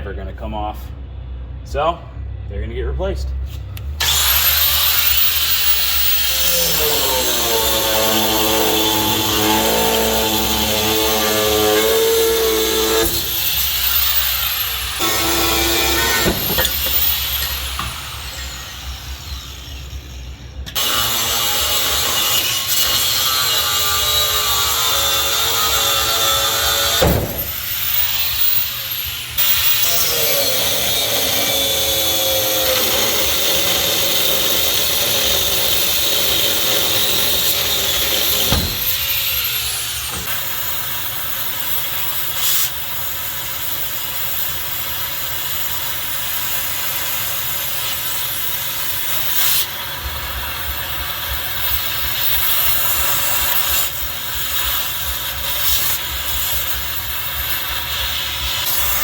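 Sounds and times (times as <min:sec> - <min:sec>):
cutting torch hissing: 0:03.5 - 0:21.0, 0:23.8 - 0:59.0.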